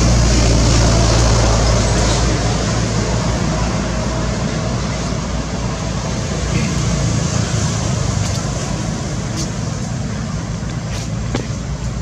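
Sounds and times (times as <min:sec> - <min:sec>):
distant road traffic rumble: 0:00.0 - 0:12.0.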